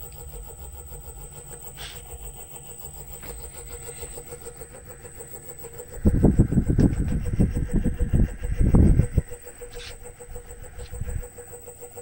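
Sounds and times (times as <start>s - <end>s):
electric motor humming: 0.0s - 12.0s.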